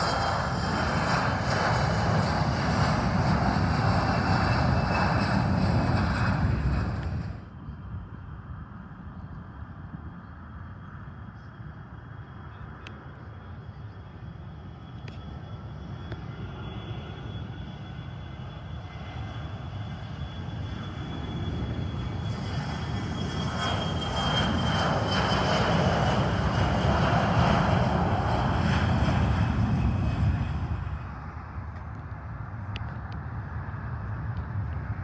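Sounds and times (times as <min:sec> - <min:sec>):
airplane engines passing: 0:00.0 - 0:35.0
high engine whine: 0:00.0 - 0:35.0.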